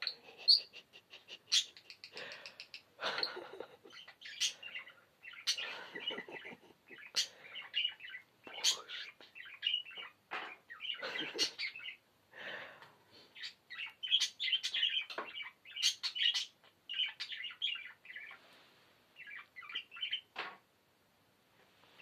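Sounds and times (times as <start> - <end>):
budgerigars chattering and chirping: 0.0 - 12.0, 13.4 - 18.4, 19.2 - 20.3.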